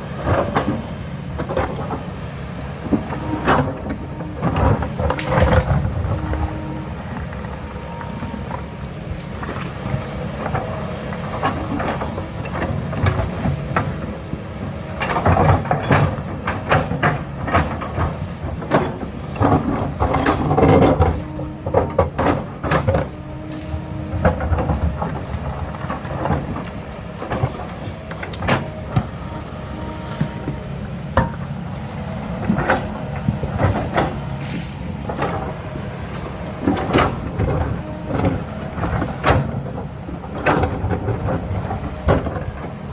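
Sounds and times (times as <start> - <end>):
diesel earthmoving machine running: 0.0 - 42.9
clanks and scraping of rock: 0.2 - 42.9.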